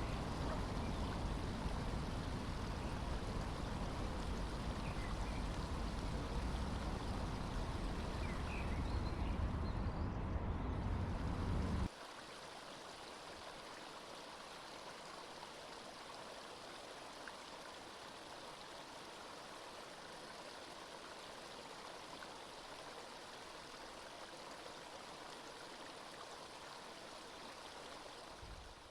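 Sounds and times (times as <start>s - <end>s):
stream water flowing: 0.0s - 28.9s.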